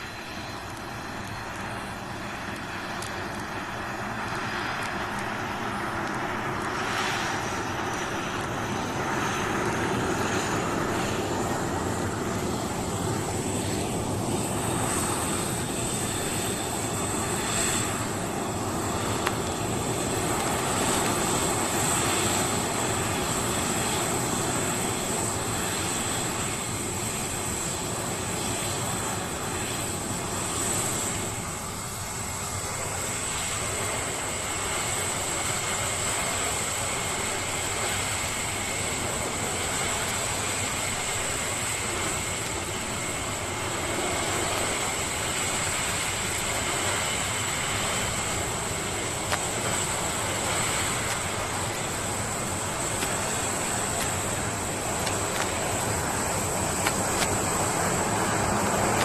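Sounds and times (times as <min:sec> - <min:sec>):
high turbine whine: 0:00.0 - 0:59.0
jet engine roar: 0:00.0 - 0:59.0.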